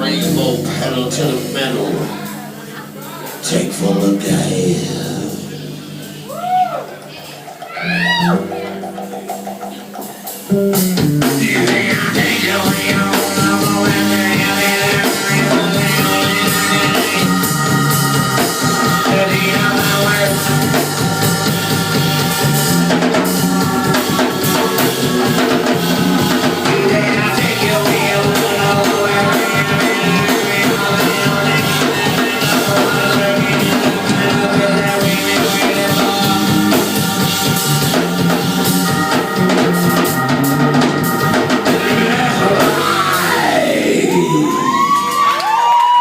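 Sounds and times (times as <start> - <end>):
drum kit beat: 0.0 - 46.0
soul band playing: 0.0 - 46.0.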